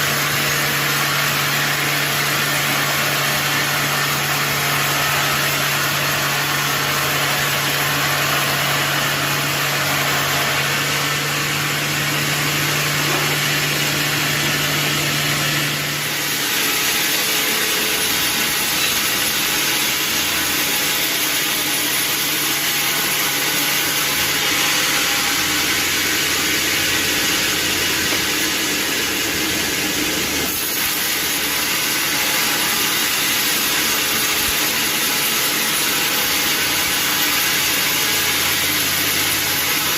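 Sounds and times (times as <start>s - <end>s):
sawmill motor drone: 0.0s - 39.9s.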